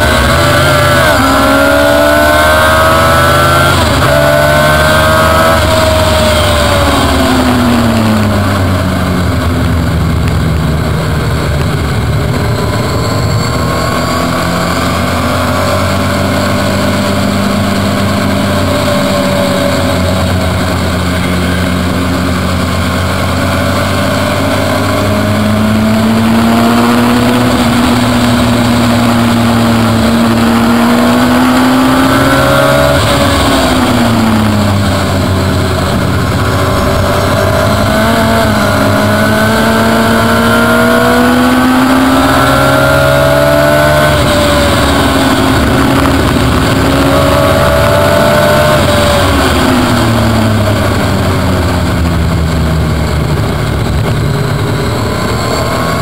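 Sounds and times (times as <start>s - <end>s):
race car engine revving: 0.0s - 56.0s
wind noise: 0.0s - 56.0s.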